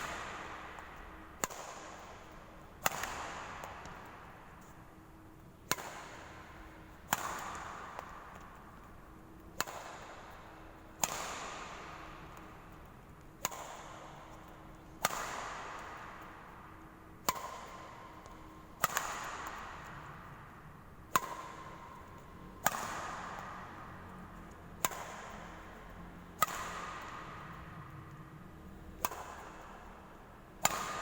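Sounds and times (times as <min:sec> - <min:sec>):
racket striking shuttlecock: 0:00.0 - 0:31.0.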